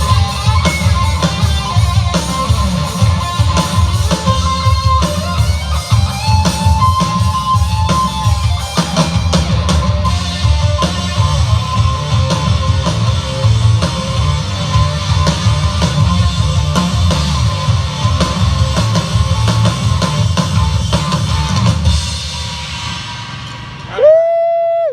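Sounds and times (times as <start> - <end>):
drum kit: 0.0 - 24.7
electric guitar: 0.0 - 24.9.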